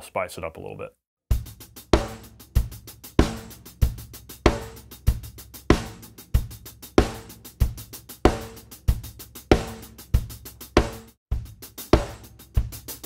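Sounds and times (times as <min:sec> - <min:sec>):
bass drum and snare: 0:01.3 - 0:13.0
hi-hat pattern: 0:01.3 - 0:13.0.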